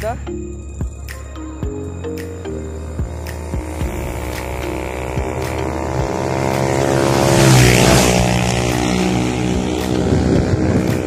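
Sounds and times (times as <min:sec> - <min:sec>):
motorcycle passing by: 0:01.7 - 0:11.0.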